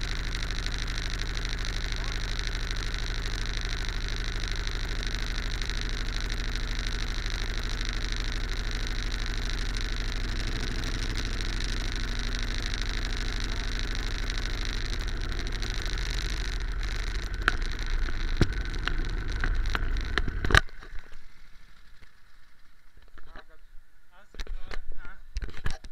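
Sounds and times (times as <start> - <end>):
go-kart engine idling: 0.0 - 23.2.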